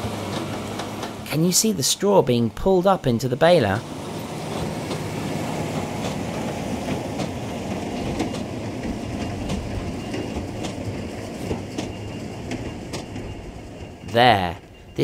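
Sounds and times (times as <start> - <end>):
tractor engine hum: 0.0 - 15.0.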